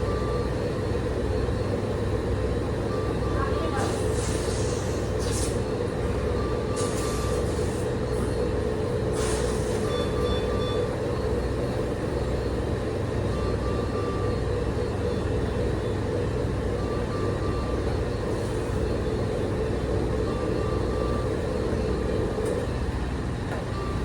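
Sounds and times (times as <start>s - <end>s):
medical equipment alarm beeps: 0.0s - 22.9s, 23.7s - 24.0s.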